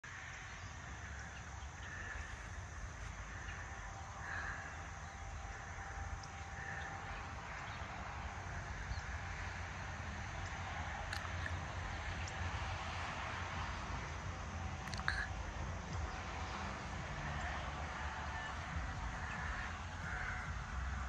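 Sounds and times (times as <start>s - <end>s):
faint steady hum: 0.0s - 21.0s
steady low rumble: 0.0s - 21.0s
distant crow cawing: 0.1s - 13.8s, 14.5s - 21.0s.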